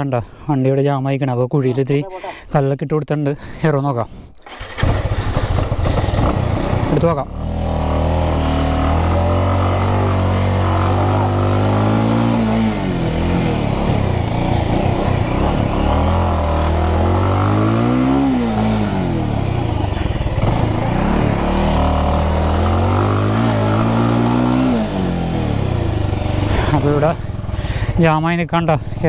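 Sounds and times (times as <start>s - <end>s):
motorcycle engine revving: 4.4s - 29.0s.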